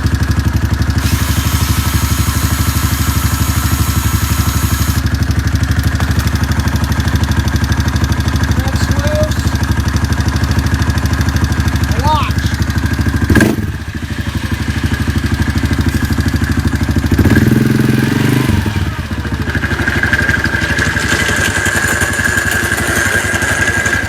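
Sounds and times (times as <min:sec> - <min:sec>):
atv engine idling: 0:00.0 - 0:24.0.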